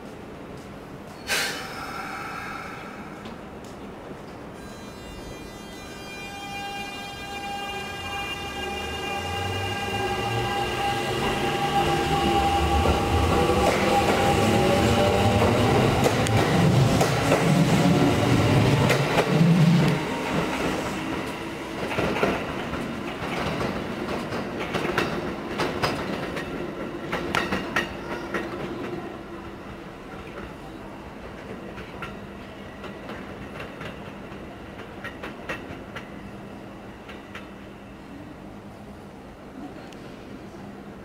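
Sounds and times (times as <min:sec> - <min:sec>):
train wheels rumbling: 0:00.1 - 0:38.0.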